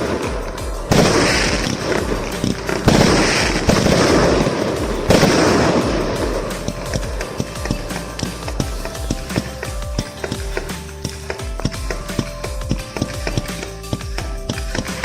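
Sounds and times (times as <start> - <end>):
fireworks crackling and bursting: 0.0 - 15.0.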